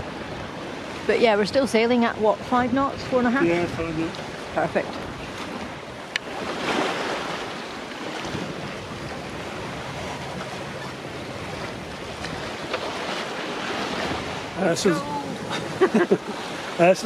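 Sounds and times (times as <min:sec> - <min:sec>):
water splashing along boat hull: 0:00.0 - 0:17.0
wind rumbling on microphone: 0:00.0 - 0:17.0.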